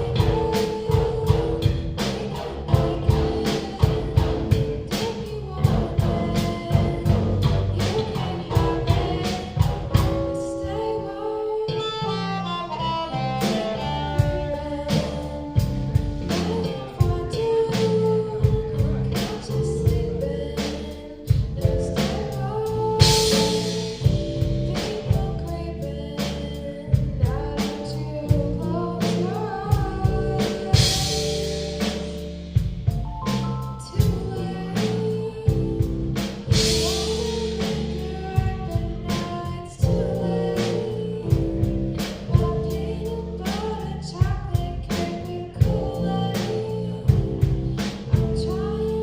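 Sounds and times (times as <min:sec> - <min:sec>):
live rock band playing: 0:00.0 - 0:49.0
person singing: 0:00.0 - 0:49.0.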